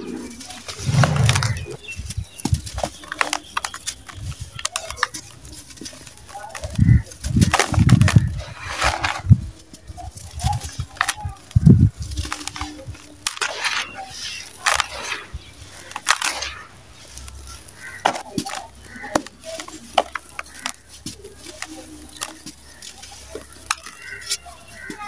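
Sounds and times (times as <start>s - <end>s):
cement chunks crunching by hand: 0.2s - 25.0s.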